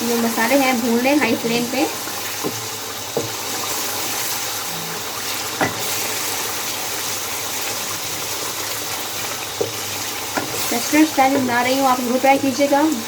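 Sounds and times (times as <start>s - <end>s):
chicken sizzling in a pan: 0.0s - 13.0s
stirring knocks: 0.1s - 4.4s, 5.2s - 6.9s, 7.5s - 12.6s.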